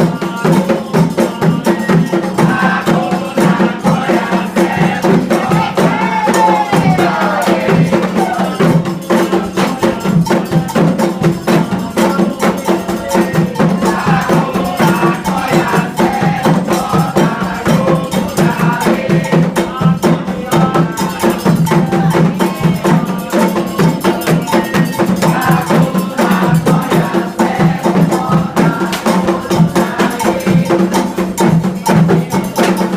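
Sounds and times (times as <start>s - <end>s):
hand drums: 0.0s - 32.9s
people singing: 0.0s - 32.9s
struck bell: 0.1s - 32.9s.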